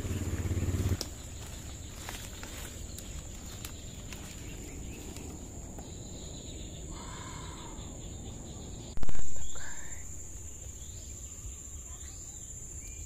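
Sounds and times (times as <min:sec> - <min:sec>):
low outdoor rumble: 0:00.0 - 0:12.2
insects droning: 0:00.0 - 0:13.0.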